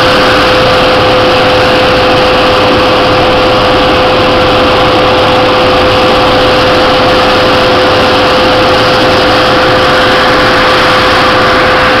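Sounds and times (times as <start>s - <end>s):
snowcat engine running loudly: 0.0s - 12.0s
steady tone: 0.0s - 12.0s.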